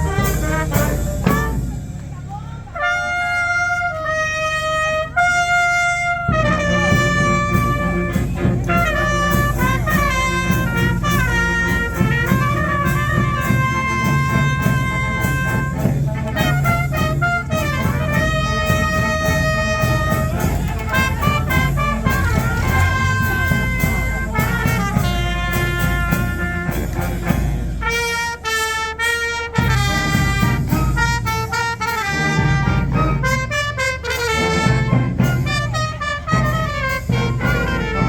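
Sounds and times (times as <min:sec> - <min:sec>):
held brass note: 0:00.0 - 0:02.0, 0:02.6 - 0:38.0
brass and drum band playing: 0:00.0 - 0:38.0.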